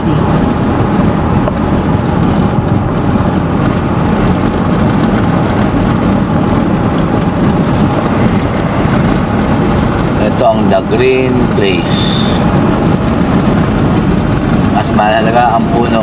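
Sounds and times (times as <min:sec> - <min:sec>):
road and tyre noise inside car: 0:00.0 - 0:16.0.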